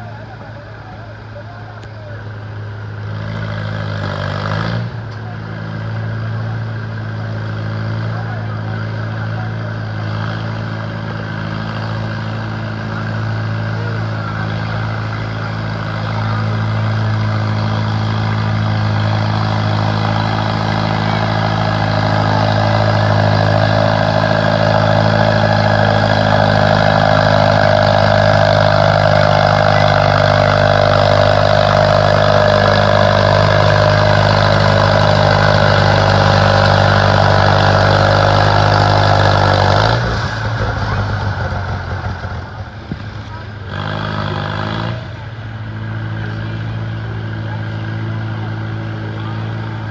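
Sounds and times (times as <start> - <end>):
tractor engine running under load: 0.0 - 49.9.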